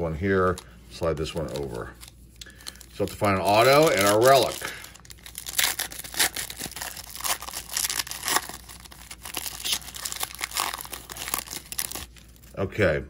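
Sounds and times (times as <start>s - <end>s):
trading cards rustling: 0.1s - 12.5s.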